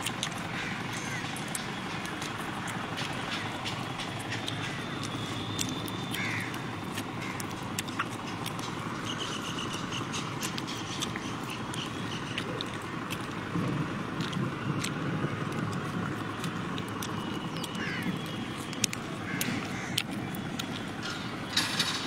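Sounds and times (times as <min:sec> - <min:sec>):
traffic rumble: 0:00.0 - 0:22.0
wind: 0:00.0 - 0:22.0.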